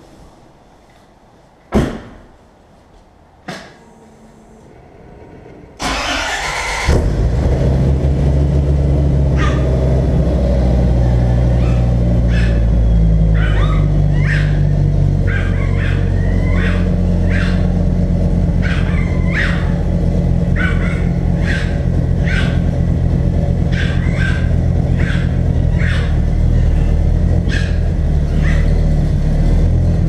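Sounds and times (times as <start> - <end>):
car engine idling: 5.8 - 30.0.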